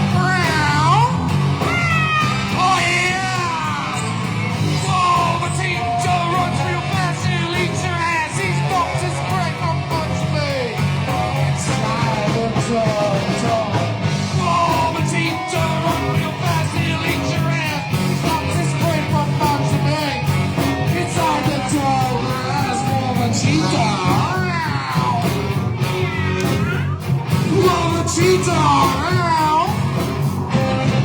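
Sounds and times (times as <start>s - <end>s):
rock band playing live: 0.0s - 31.0s
steady drum beat: 0.0s - 31.0s.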